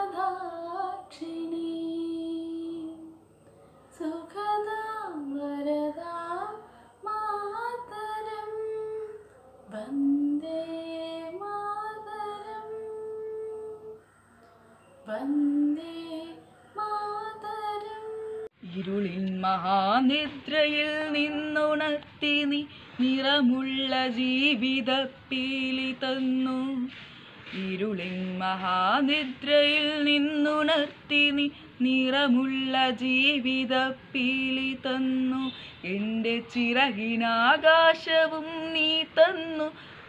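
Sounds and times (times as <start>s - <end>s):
girl singing unaccompanied: 0.0s - 14.0s, 14.8s - 40.0s.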